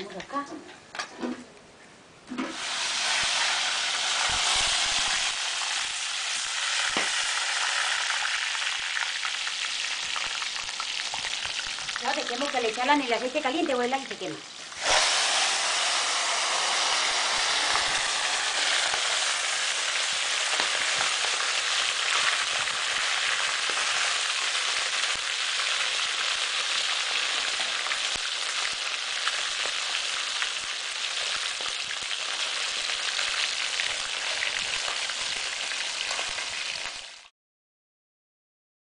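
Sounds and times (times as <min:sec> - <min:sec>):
fish sizzling in hot oil: 0:02.5 - 0:37.3.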